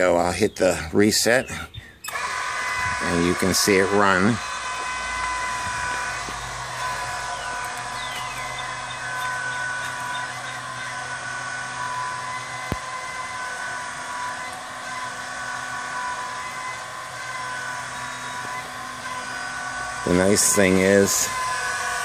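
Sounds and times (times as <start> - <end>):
electric motors whining: 1.5 - 22.0
pump crank stroking: 2.0 - 22.0.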